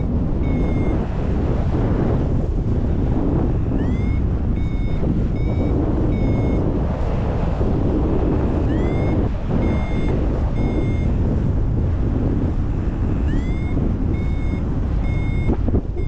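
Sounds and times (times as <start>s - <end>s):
variometer beeping: 0.0s - 7.0s, 7.7s - 11.5s, 13.0s - 16.0s
wind on microphone: 0.0s - 16.0s.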